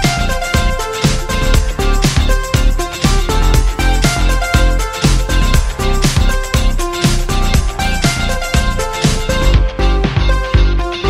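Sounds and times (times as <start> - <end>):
dance music with bass beat: 0.0 - 11.0.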